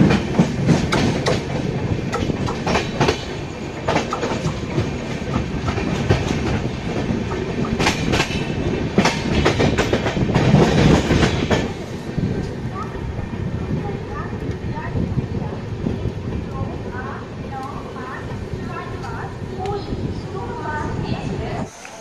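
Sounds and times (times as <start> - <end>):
wheels clacking over rail joints: 0.0 - 19.8
train rumbling: 0.0 - 22.0.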